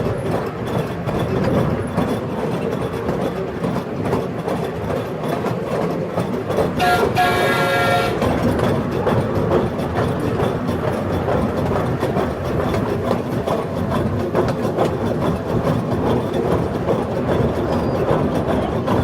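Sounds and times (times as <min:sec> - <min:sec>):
ride train rumbling and rattling: 0:00.0 - 0:19.0.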